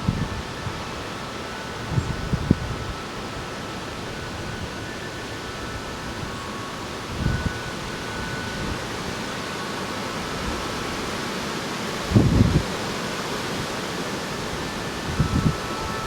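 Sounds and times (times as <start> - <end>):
outdoor hiss: 0.0 - 16.0
wind buffeting microphone: 0.0 - 16.0
wind chimes ringing: 0.0 - 16.0.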